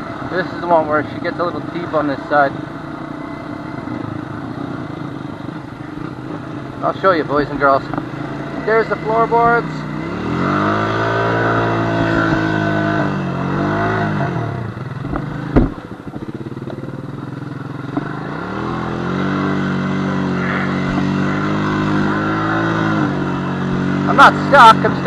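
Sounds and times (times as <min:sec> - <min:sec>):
quad engine revving: 0:00.0 - 0:25.0.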